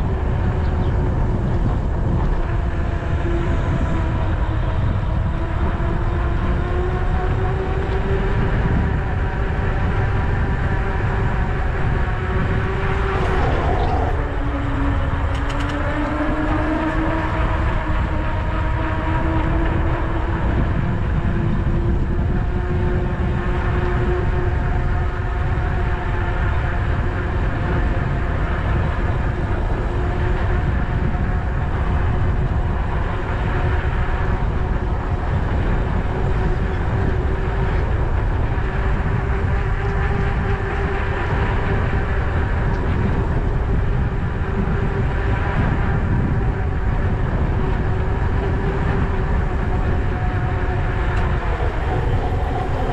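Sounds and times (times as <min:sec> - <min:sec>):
electric bike motor whining: 0:00.0 - 0:52.9
wind rush on microphone: 0:00.0 - 0:52.9.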